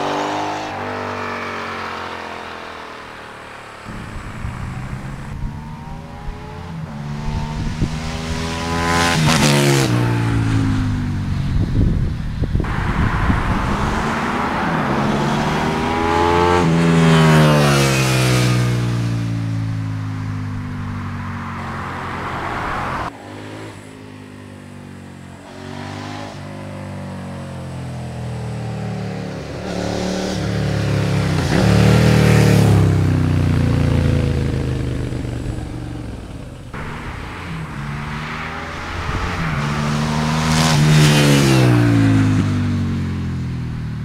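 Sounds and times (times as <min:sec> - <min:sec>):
motorcycle accelerating past: 0:00.0 - 0:23.9, 0:25.5 - 0:44.0.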